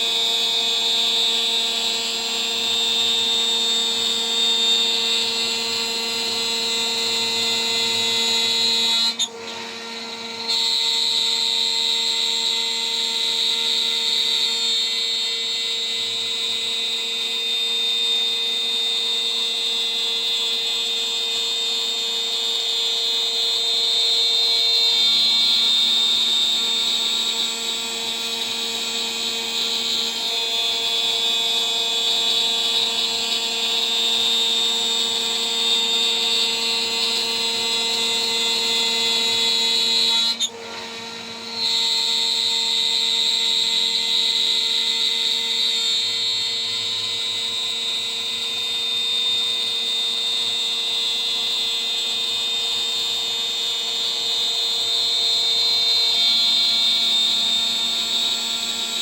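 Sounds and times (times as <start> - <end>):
router spindle milling whine: 0.0 - 59.0.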